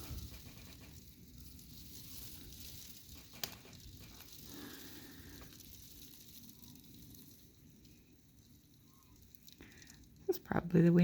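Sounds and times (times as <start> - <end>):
precipitation hissing against house: 0.0 - 10.2.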